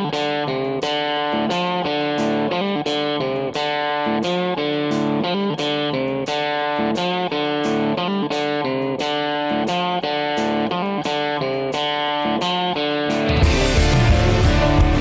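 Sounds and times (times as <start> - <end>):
guitar instrumental music: 0.0 - 15.0.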